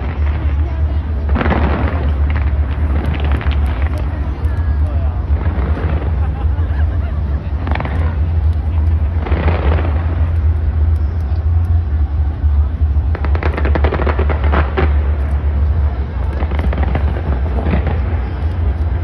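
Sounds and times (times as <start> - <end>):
fireworks booming: 0.0 - 19.0
fireworks crackling pops: 0.0 - 19.0.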